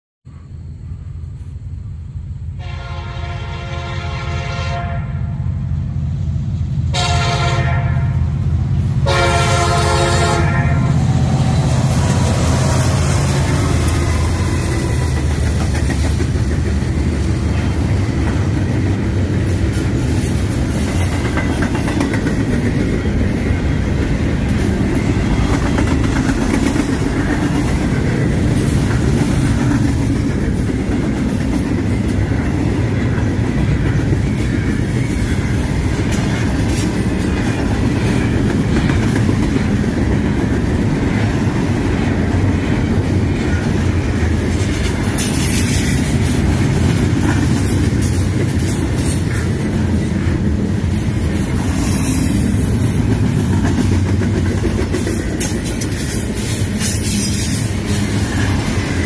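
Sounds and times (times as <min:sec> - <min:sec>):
freight train rumbling: 0:00.3 - 0:59.0
wheels clacking over rail joints: 0:11.2 - 0:59.0.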